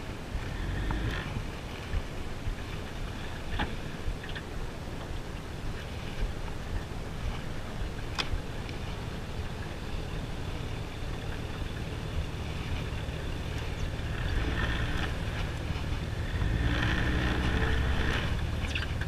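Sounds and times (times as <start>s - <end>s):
outboard motor running: 0.0s - 19.0s
wind rumbling on microphone: 0.0s - 19.0s.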